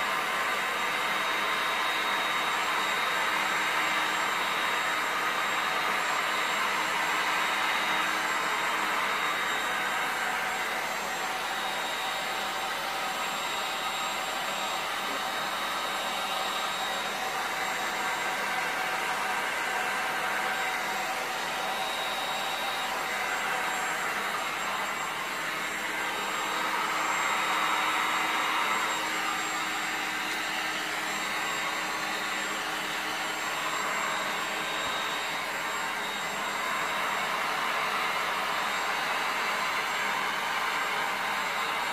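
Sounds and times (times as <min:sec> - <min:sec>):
heat gun blowing with high whine: 0:00.0 - 0:41.9.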